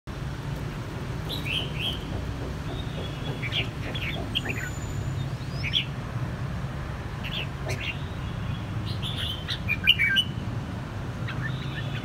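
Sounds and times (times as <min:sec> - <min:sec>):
birds chirping: 0:00.6 - 0:06.0, 0:07.1 - 0:10.5, 0:11.1 - 0:12.0.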